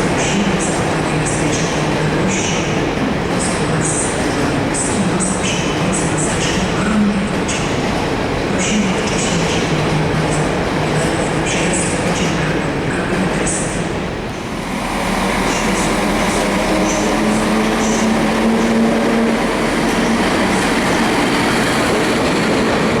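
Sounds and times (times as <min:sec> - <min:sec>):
train rolling: 0:00.0 - 0:23.0.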